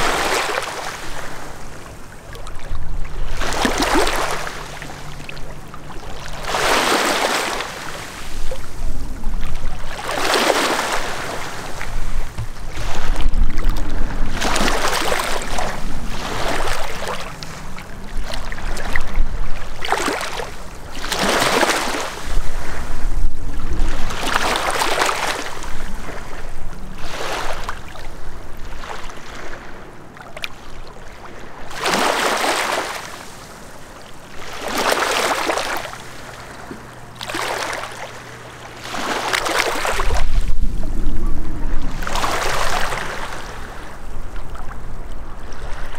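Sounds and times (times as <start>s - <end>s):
small waves lapping on shore: 0.0s - 45.9s.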